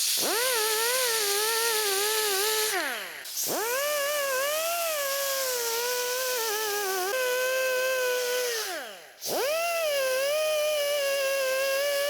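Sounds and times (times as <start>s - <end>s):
power drill whining: 0.2s - 12.0s.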